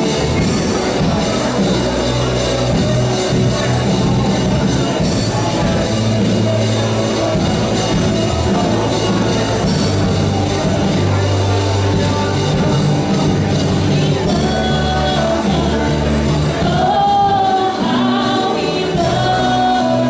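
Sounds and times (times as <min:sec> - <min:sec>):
drum kit: 0:00.0 - 0:20.0
sustained low bass notes: 0:00.0 - 0:20.0
worship band playing: 0:00.0 - 0:20.0.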